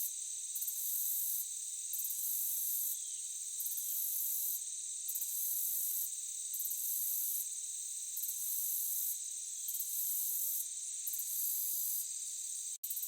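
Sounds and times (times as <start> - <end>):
pulsing cricket chirp: 0.0 - 13.0.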